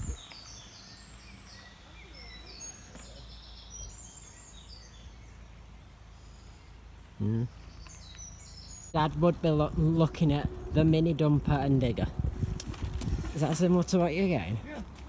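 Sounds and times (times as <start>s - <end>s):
faint low outdoor rumble: 0.0s - 15.0s
small birds chirping: 0.0s - 15.0s.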